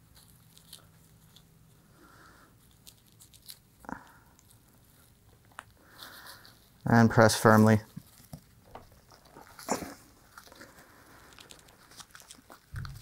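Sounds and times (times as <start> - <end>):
rustling of gloved hands and tape: 0.0 - 13.0.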